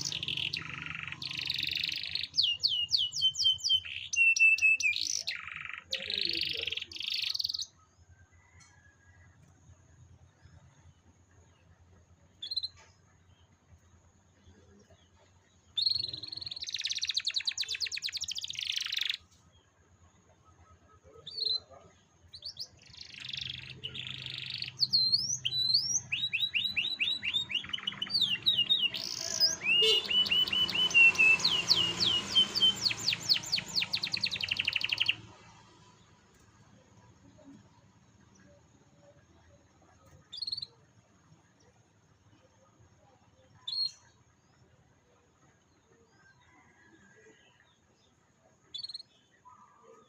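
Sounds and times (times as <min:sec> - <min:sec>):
canary singing trills: 0:00.0 - 0:09.0, 0:11.7 - 0:13.8, 0:14.5 - 0:19.5, 0:20.2 - 0:44.3, 0:48.6 - 0:50.0.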